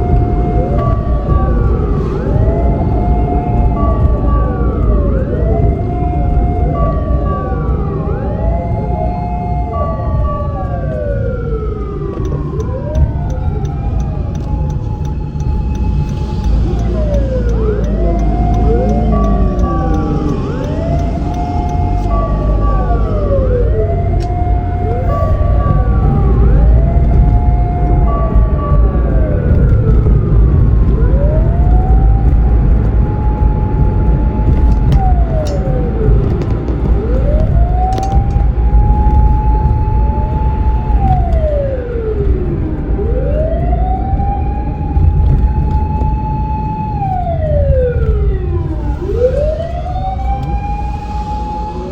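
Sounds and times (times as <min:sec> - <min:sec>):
fire engine siren wailing: 0:00.0 - 0:51.9
vehicle engine and road rumble: 0:00.0 - 0:51.9.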